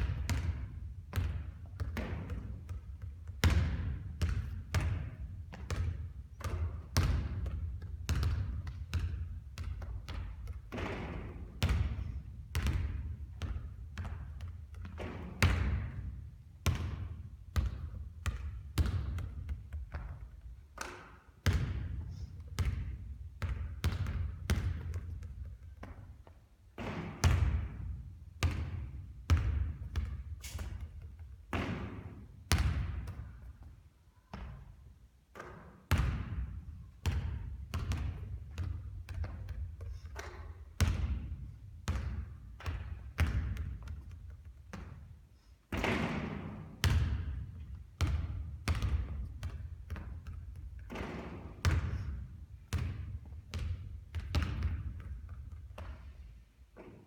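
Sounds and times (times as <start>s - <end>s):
basketball bouncing on hard court: 0.0s - 33.7s, 34.3s - 34.7s, 35.3s - 45.1s, 45.7s - 57.0s.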